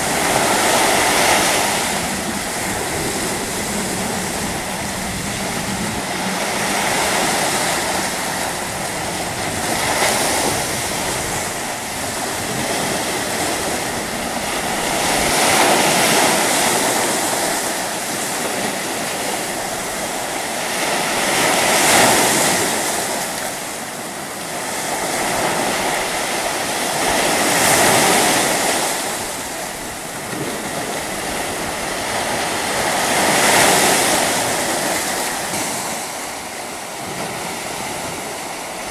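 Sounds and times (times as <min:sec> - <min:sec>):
small waves breaking on rocks: 0:00.0 - 0:38.9.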